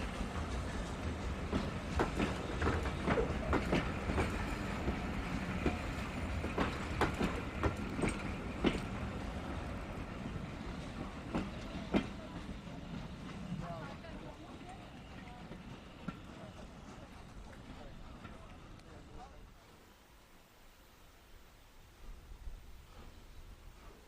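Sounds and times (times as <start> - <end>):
wheels clicking on rail joints: 0.0 - 19.5
railway carriages rumbling: 0.0 - 19.6.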